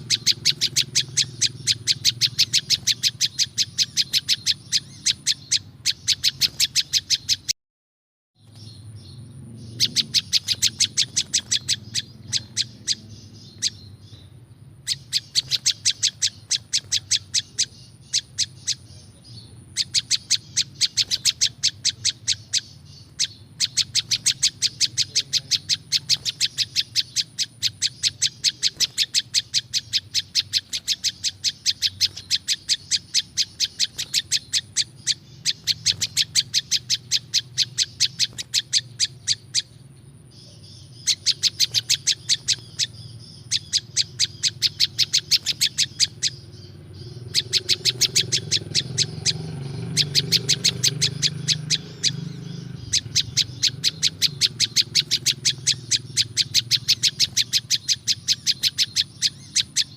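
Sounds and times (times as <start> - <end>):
bird rapid chip notes: 0.0 - 7.5, 8.4 - 59.9.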